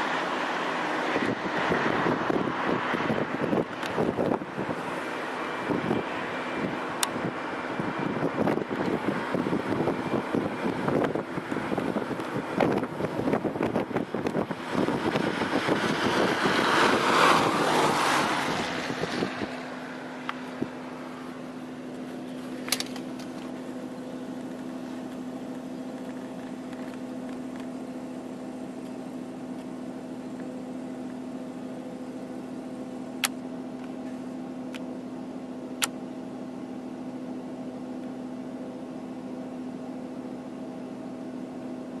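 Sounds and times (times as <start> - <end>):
car engine hum from cabin: 0.0 - 42.0.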